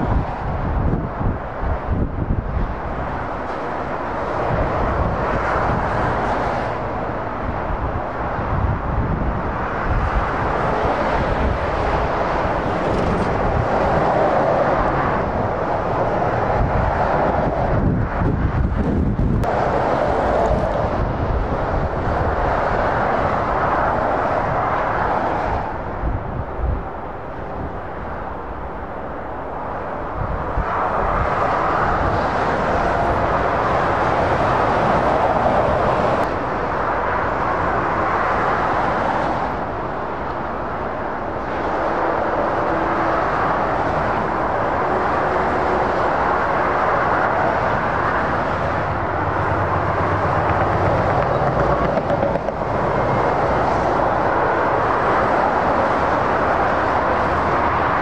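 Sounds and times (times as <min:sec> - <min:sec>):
heavy motorway traffic: 0:00.0 - 0:58.0.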